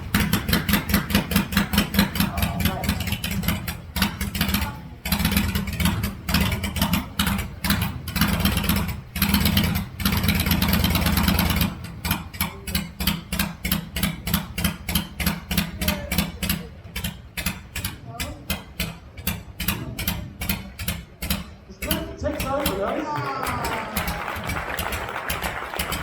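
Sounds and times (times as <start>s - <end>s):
motorcycle engine revving: 0.0s - 22.9s, 23.6s - 26.0s.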